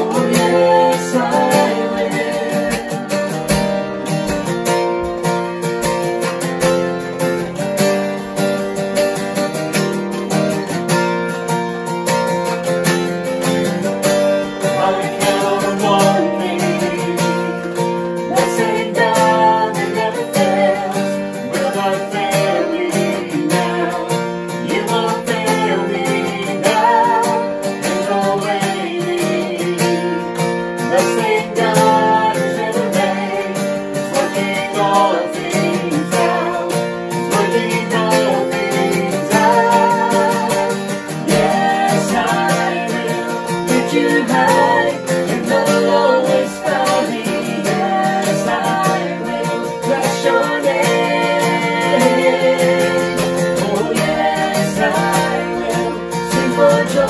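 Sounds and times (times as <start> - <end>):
group of voices singing: 0.0 - 5.0, 13.4 - 57.0
acoustic guitar strumming: 0.0 - 57.0.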